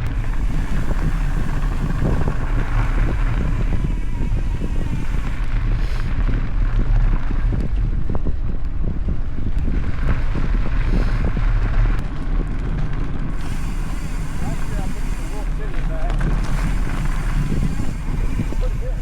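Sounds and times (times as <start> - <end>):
bike knocks and rattles: 0.0 - 19.0
steady low rumble: 0.0 - 19.0
wind buffeting microphone: 0.0 - 19.0.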